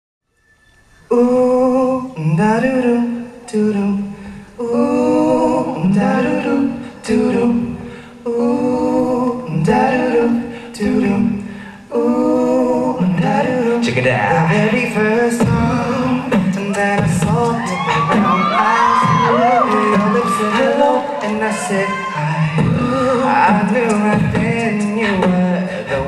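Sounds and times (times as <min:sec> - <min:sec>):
person singing with vibrato: 0:00.8 - 0:26.0.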